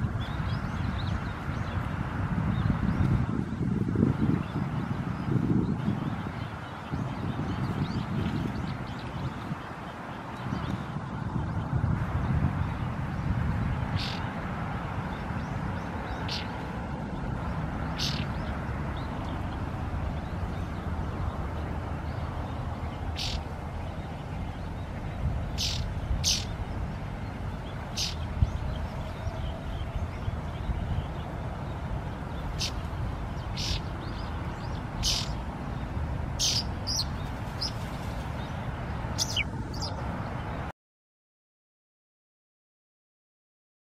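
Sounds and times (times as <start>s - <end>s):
bird chirping calls: 4.4s - 14.4s, 15.0s - 40.6s.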